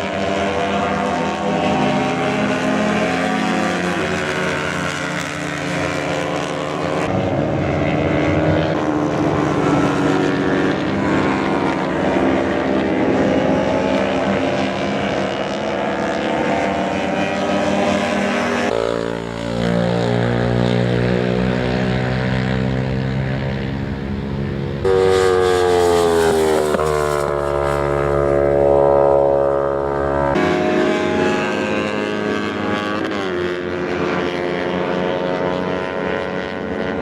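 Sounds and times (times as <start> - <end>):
racing motorcycle engines revving: 0.0 - 37.0.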